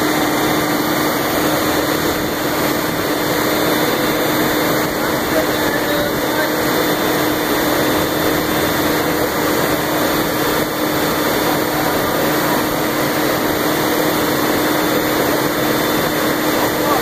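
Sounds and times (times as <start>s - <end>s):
electric motor running under load: 0.0s - 17.0s.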